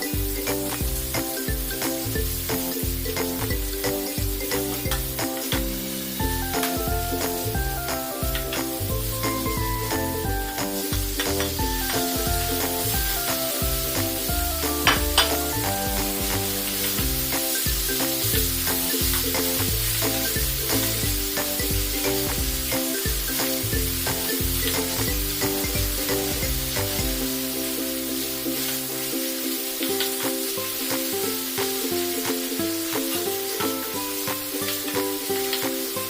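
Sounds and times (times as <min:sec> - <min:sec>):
background music: 0:00.0 - 0:36.0
curry sizzling in a pan: 0:00.0 - 0:36.0.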